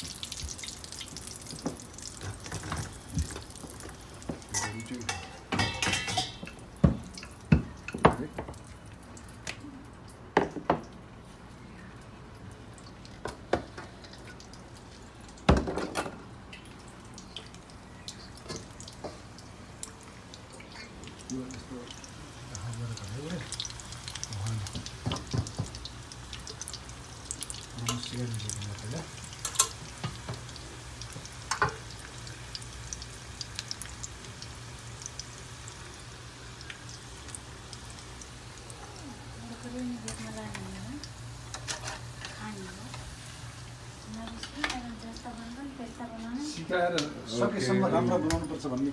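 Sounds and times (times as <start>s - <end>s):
hot oil crackling and spitting: 0.0s - 48.9s.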